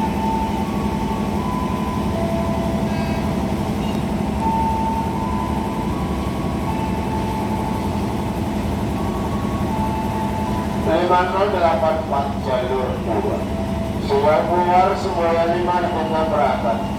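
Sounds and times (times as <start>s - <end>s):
train machinery humming: 0.0s - 16.9s.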